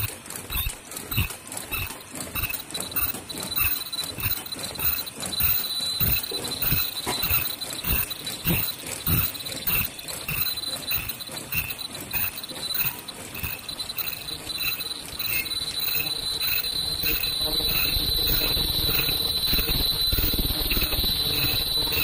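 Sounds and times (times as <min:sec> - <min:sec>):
production machine running: 0:00.0 - 0:22.0.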